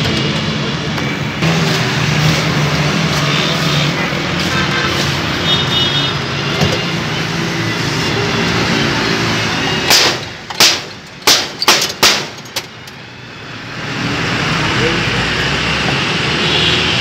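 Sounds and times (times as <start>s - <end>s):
road traffic: 0.0s - 17.0s
street bustle: 0.0s - 17.0s.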